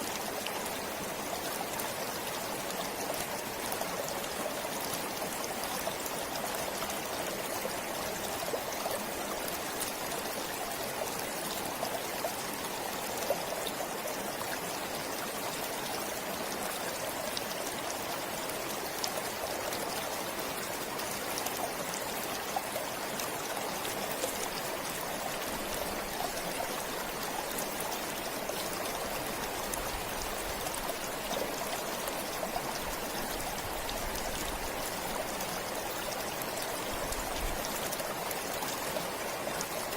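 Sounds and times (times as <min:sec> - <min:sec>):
stream flowing: 0:00.0 - 0:39.9
water trickles and drips: 0:00.0 - 0:39.9.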